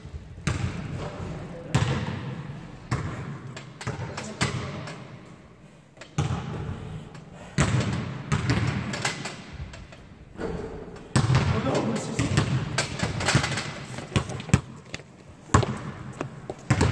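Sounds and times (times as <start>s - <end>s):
thuds echoing in a gym hall: 0.0s - 16.9s.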